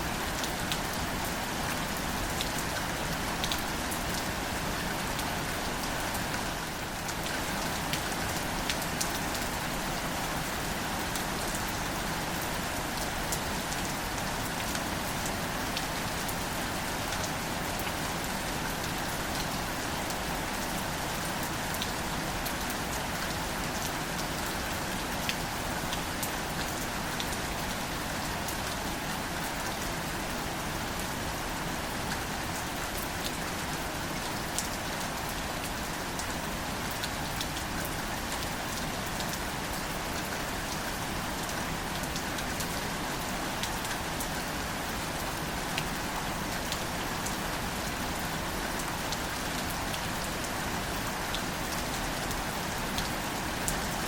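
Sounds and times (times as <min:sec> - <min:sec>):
gentle rain on leaves: 0:00.0 - 0:54.0.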